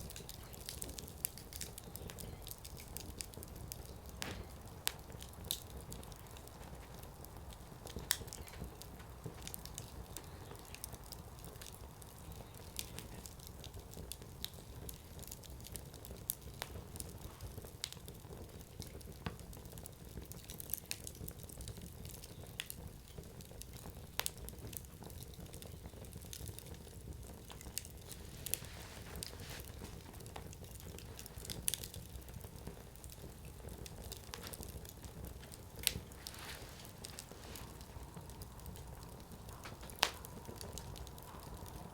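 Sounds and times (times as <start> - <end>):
campfire crackles and pops: 0.0 - 41.9
low rumble of flame: 0.0 - 41.9.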